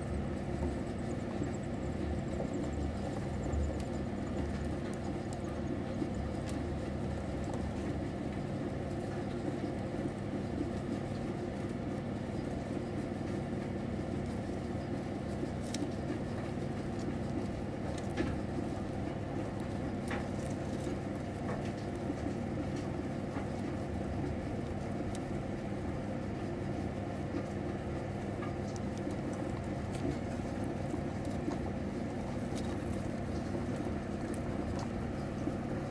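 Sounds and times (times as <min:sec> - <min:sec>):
mice nibbling and rustling: 0:00.0 - 0:35.9.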